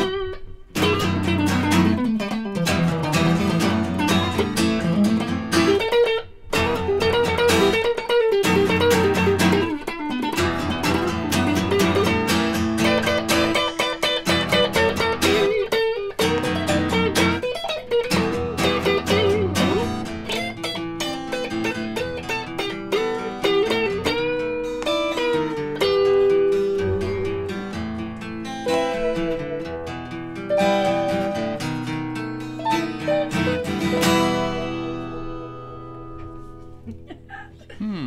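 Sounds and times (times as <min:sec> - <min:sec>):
acoustic guitar strumming: 0:00.0 - 0:37.1
electric guitar lead lines: 0:00.0 - 0:37.1.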